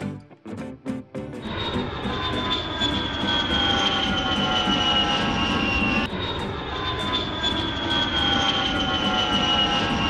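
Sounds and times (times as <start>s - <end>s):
jet engine rush with turbine whine: 1.4s - 10.0s.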